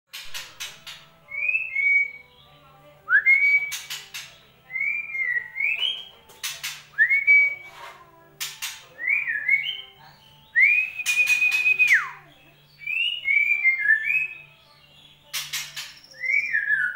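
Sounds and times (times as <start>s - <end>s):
harsh rasping bird notes: 0.1s - 2.5s, 3.1s - 16.9s
bird singing whistled notes: 0.3s - 7.8s, 8.6s - 16.9s.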